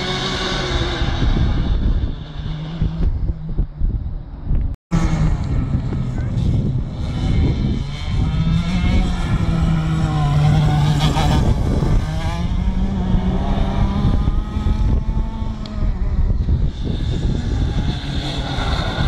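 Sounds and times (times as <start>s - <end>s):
go-kart engines buzzing: 0.0s - 3.6s, 4.2s - 19.0s.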